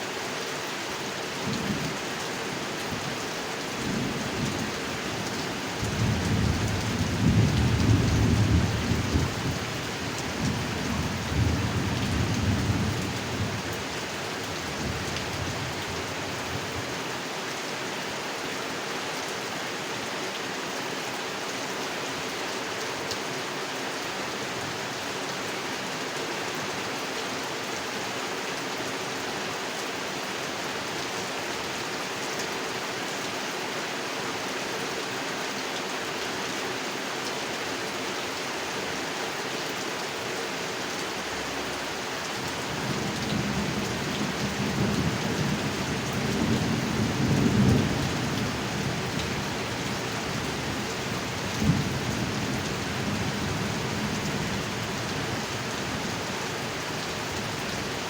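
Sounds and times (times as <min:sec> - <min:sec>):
rain falling on a pond: 0:00.0 - 0:58.0.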